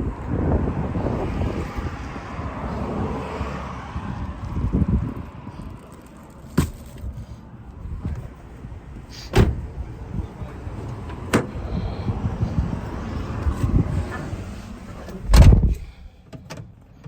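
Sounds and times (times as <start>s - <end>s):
gusty wind rumble on microphone: 0.0s - 16.1s.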